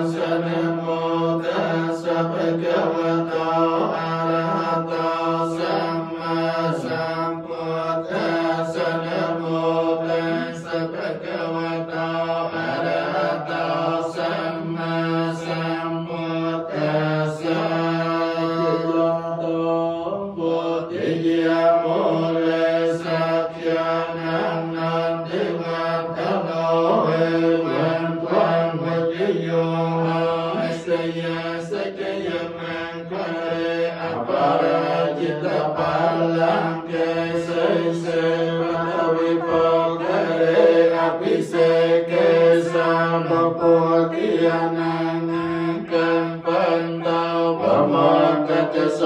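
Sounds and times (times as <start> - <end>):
men chanting in unison: 0.0 - 49.0.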